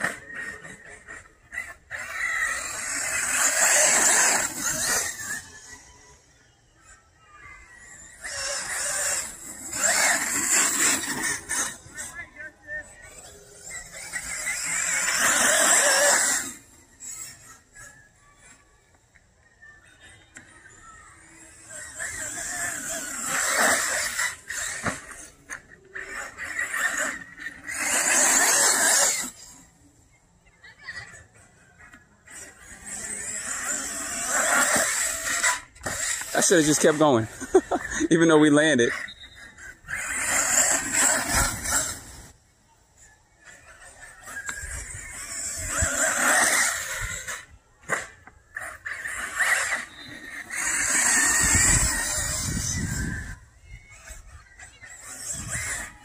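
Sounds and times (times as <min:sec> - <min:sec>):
electric motor whining: 0:00.0 - 0:19.7, 0:20.3 - 0:29.8, 0:31.4 - 0:42.4, 0:43.4 - 0:56.0.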